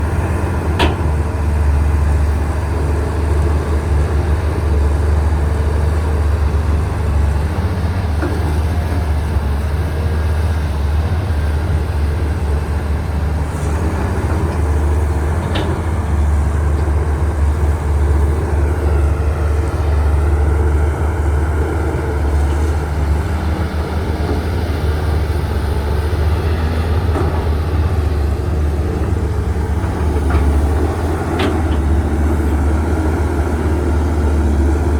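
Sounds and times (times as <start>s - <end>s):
excavator diesel engines droning: 0.0s - 34.9s.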